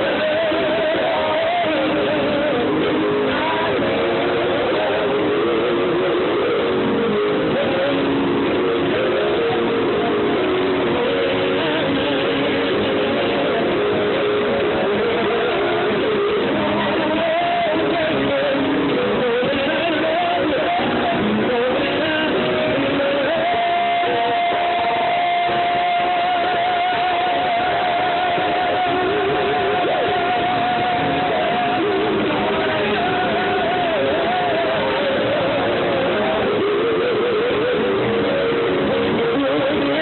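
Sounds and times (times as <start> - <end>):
live band music: 0.0 - 40.0
person singing: 0.0 - 40.0.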